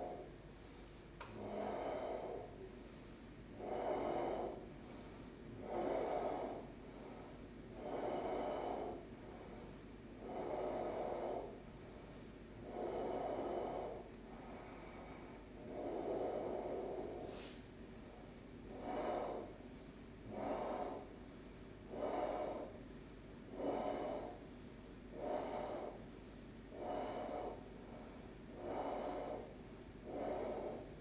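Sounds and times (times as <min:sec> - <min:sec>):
person breathing through the throat: 0:00.0 - 0:17.7, 0:18.7 - 0:19.6, 0:20.2 - 0:21.2, 0:21.8 - 0:22.9, 0:23.5 - 0:24.5, 0:25.1 - 0:26.1, 0:26.7 - 0:31.0.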